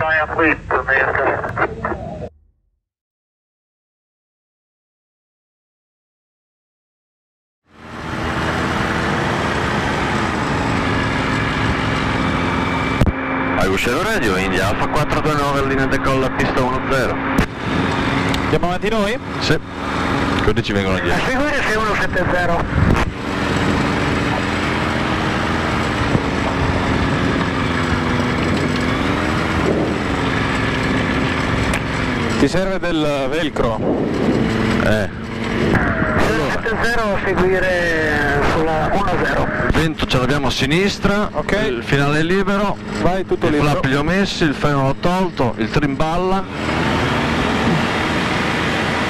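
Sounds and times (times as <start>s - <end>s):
aircraft engine and propeller drone: 0.0s - 2.3s, 7.7s - 49.0s.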